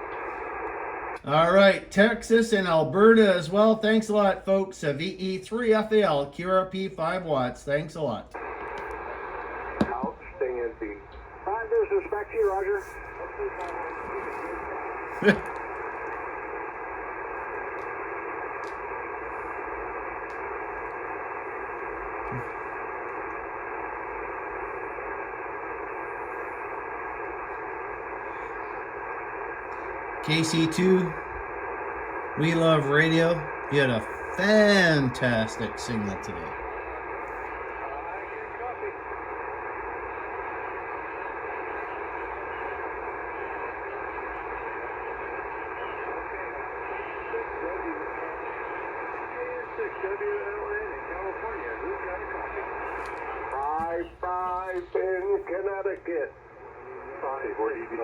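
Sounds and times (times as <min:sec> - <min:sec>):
faint steady tones: 0:00.0 - 0:58.0
radio static hiss: 0:00.0 - 0:58.0.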